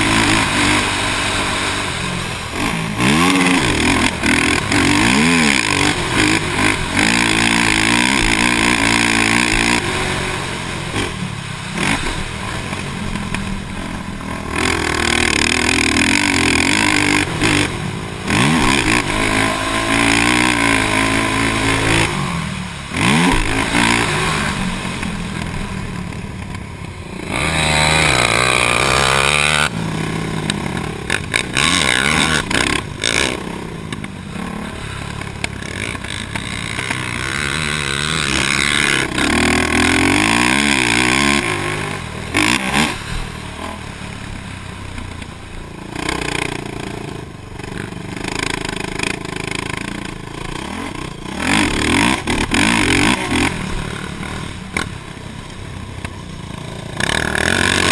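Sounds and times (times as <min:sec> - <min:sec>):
quad bike engine revving: 0:00.0 - 0:57.9.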